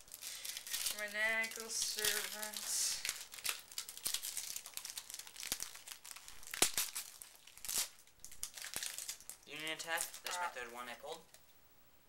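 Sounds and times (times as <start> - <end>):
foil wrapper crinkling and tearing: 0.0 - 11.3.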